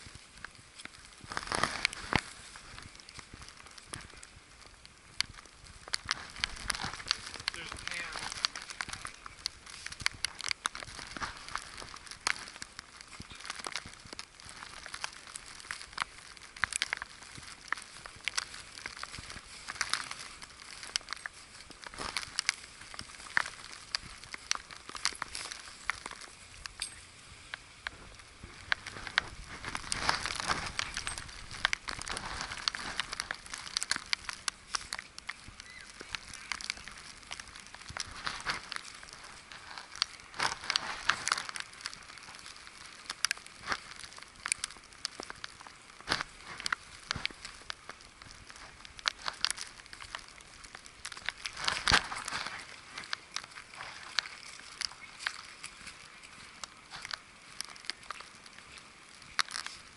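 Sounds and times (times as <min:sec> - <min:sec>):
footsteps crunching through snow: 0:00.0 - 0:59.9.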